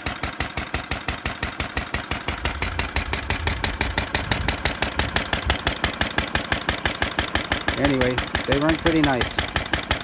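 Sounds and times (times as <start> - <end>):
stationary engine running: 0.0 - 10.0.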